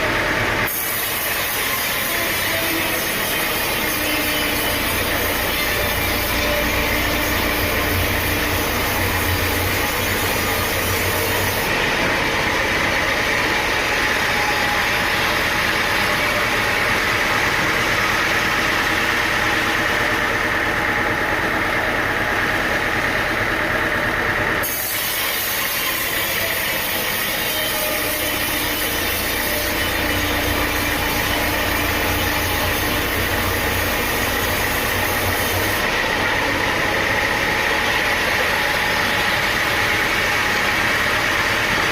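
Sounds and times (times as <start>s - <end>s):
sawmill machinery droning and whining: 0.0s - 41.9s.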